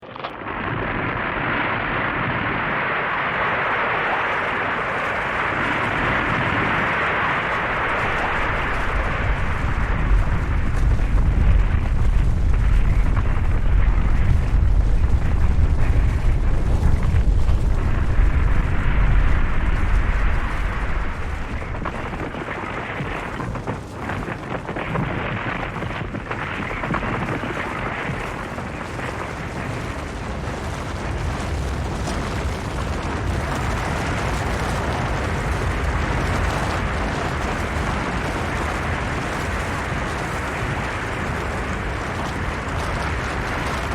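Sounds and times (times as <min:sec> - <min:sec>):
avalanche deep rumble: 0:00.0 - 0:43.9
sliding snow and debris rushing: 0:00.0 - 0:43.9.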